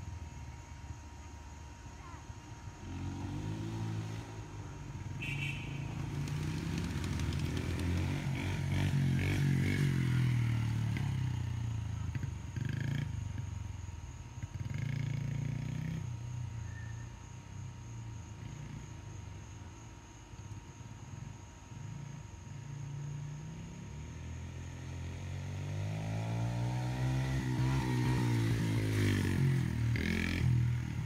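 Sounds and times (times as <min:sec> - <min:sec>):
dirt bike engine running: 0:00.0 - 0:19.7, 0:21.1 - 0:31.0.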